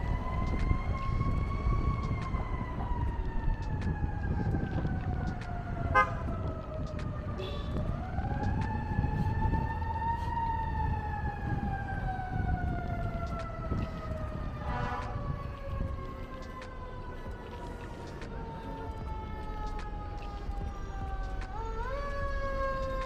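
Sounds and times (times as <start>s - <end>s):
low rumble of traffic: 0.0s - 23.0s
siren wailing: 0.0s - 23.0s.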